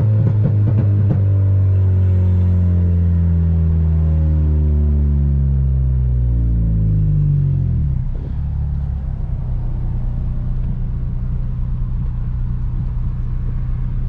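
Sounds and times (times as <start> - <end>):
car engine slowing to idle: 0.0 - 14.0.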